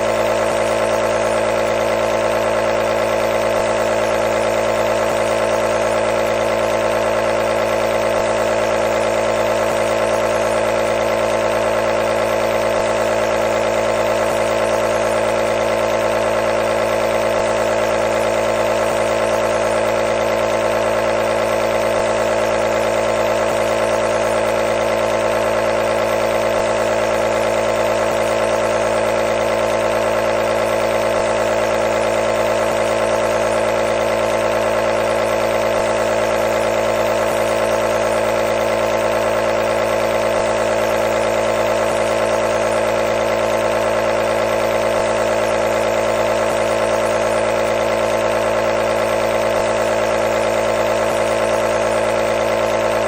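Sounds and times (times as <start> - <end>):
compressor motor humming: 0.0 - 53.0.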